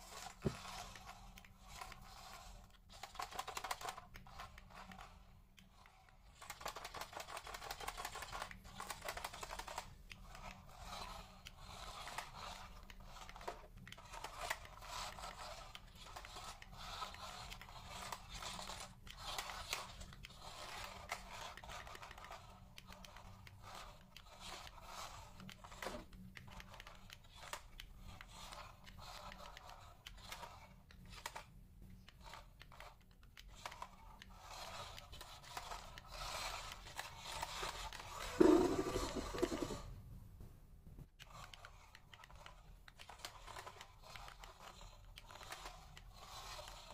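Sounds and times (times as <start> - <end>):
toy car scraping and rattling: 0.0 - 39.9, 41.2 - 46.9.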